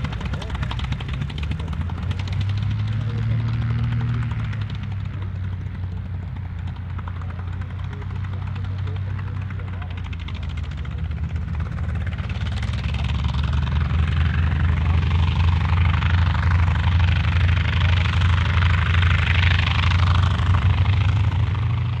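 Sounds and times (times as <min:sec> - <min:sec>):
propeller plane engine throbbing: 0:00.0 - 0:22.0.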